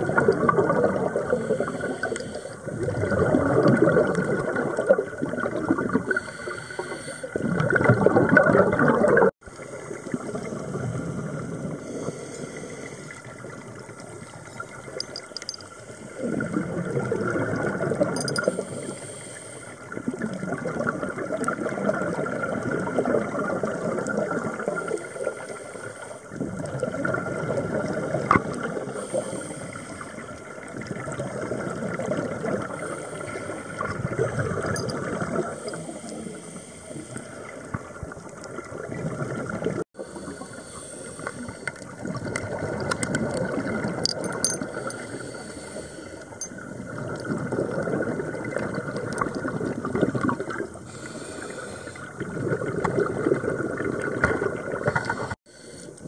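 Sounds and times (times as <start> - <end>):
regulator bubbles underwater: 0.0 - 56.0.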